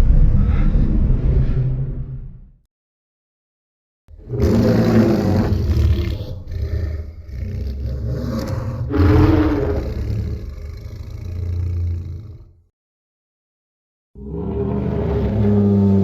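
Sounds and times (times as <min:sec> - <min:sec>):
deep rumbling monster roar: 0:00.0 - 0:02.5, 0:04.1 - 0:12.7, 0:14.2 - 0:16.0.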